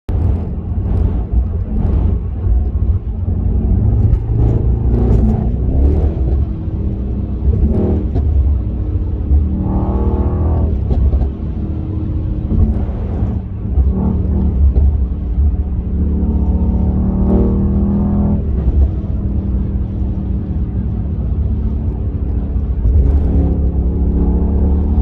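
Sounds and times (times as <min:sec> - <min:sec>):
car exhaust rumbling: 0:00.1 - 0:25.0.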